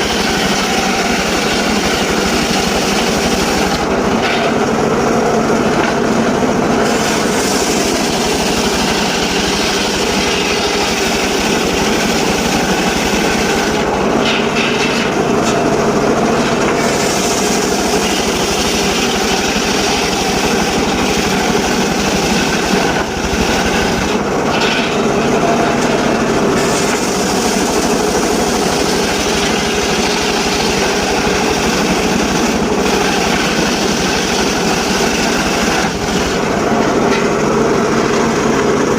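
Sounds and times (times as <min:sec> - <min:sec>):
sawmill sawing logs: 0:00.0 - 0:38.9.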